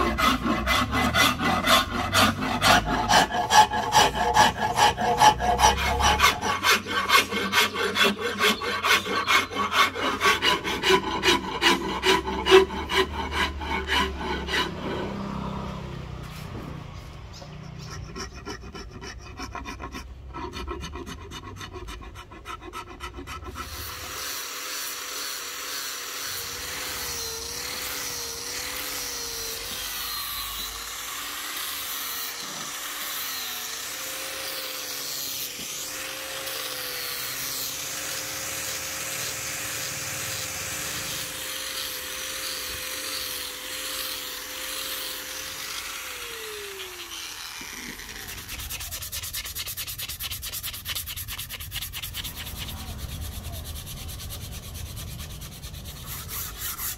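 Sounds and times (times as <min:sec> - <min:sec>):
hand file rasping on wood: 0:00.0 - 0:16.6, 0:17.4 - 0:56.9
angle grinder sanding wood: 0:00.0 - 0:56.9.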